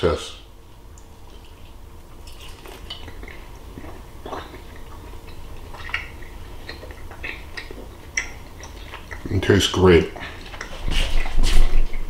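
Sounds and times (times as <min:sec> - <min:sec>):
chewing with wet smacks: 0:00.7 - 0:12.0.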